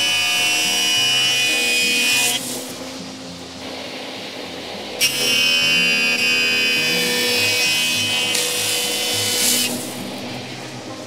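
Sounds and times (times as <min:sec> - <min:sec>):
jointer cutting wood whine: 0:00.0 - 0:02.8, 0:03.6 - 0:11.0.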